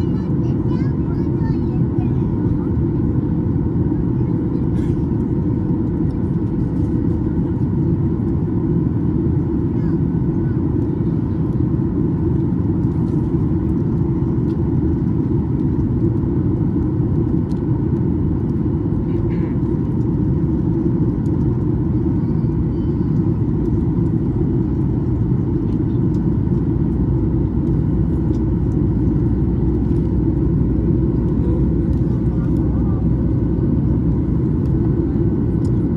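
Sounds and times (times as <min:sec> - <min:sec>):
airliner cabin engine drone: 0:00.0 - 0:35.9.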